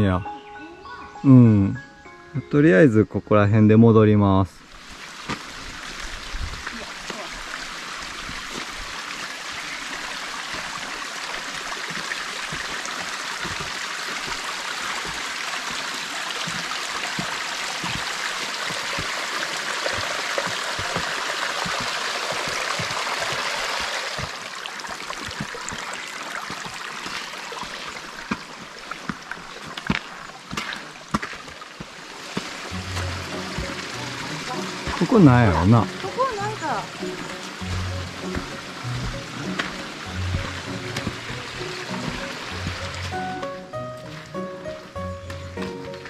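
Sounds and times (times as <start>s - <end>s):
mountain stream rushing: 4.6s - 46.0s.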